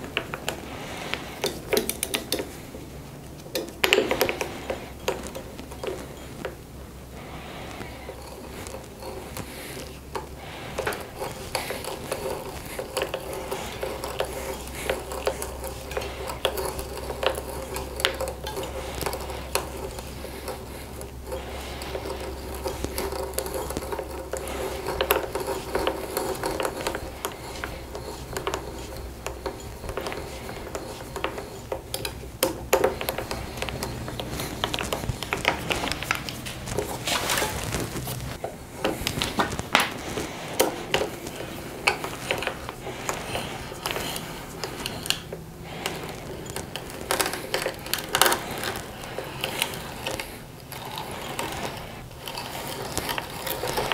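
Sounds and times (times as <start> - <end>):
hand drill scraping wood: 0.0 - 53.9.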